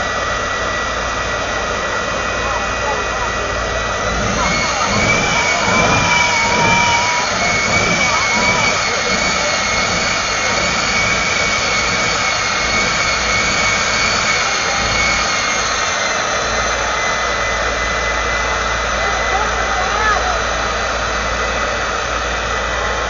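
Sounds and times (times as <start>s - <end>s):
jet engine whining: 0.0s - 23.0s.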